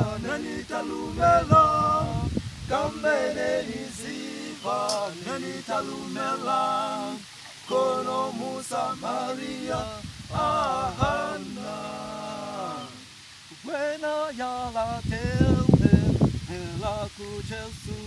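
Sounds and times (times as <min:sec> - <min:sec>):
men singing a cappella: 0:00.0 - 0:18.0.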